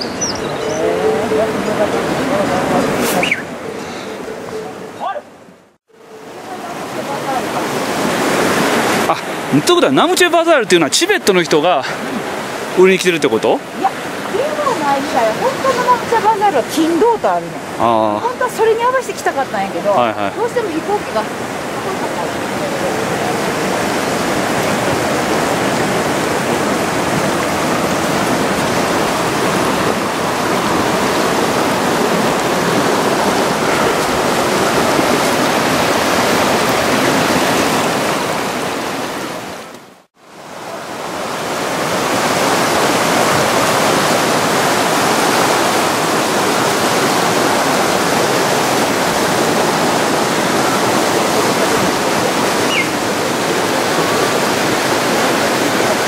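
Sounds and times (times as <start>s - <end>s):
stream running over rocks: 0.0s - 4.9s, 5.9s - 56.0s.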